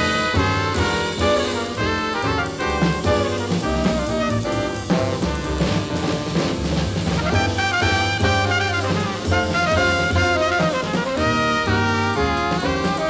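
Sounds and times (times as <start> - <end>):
bass: 0.0 - 13.0
drums and cymbals: 0.0 - 13.0
horns playing melody: 0.0 - 13.0.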